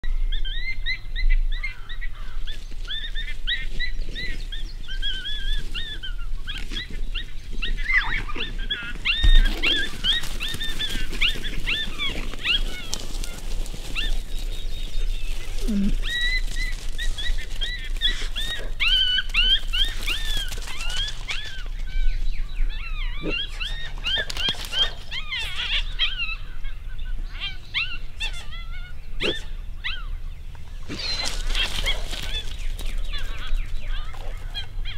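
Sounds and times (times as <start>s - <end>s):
coyotes yipping and howling: 0.3s - 34.9s.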